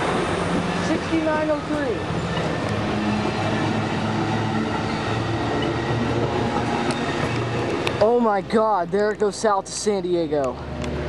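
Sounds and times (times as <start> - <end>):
diesel locomotive droning: 0.0 - 11.0
train cars rumbling on rails: 0.0 - 11.0.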